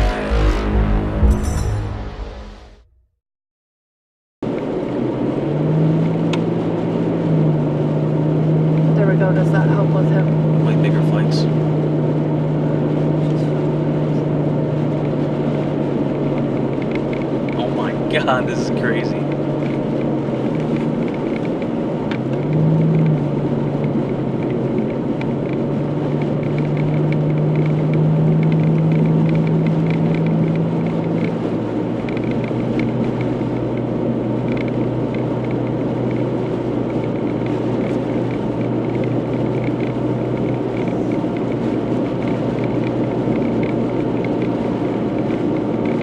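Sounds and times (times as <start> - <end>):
car engine running: 0.0 - 1.9, 4.5 - 46.0.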